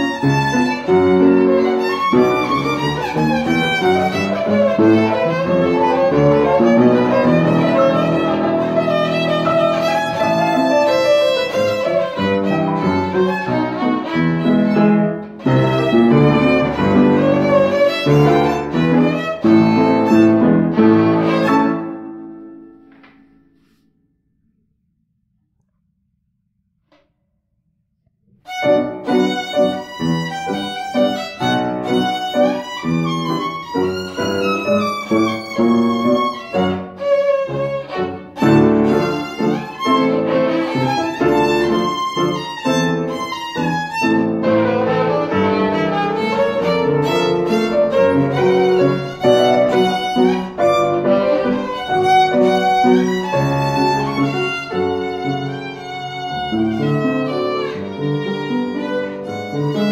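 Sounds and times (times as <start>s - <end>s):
violin bowed melody: 0.0s - 22.7s, 28.5s - 59.9s
upright piano accompaniment: 0.0s - 23.8s, 28.5s - 59.9s.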